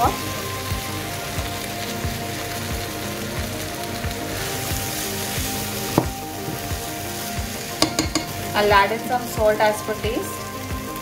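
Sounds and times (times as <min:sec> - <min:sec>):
background music with beat: 0:00.0 - 0:11.0
food sizzling in a pan: 0:00.0 - 0:11.0.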